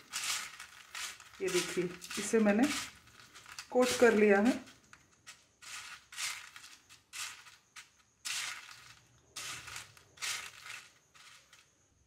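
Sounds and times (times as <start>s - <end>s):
dry noodles crunching and rustling: 0.0s - 12.0s.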